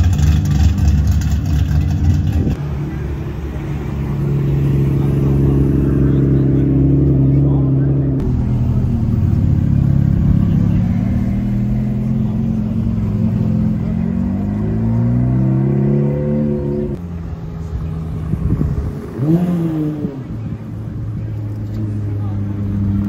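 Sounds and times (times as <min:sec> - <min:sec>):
car engine accelerating: 0:00.0 - 0:23.0
quiet car engine revving: 0:00.0 - 0:23.0.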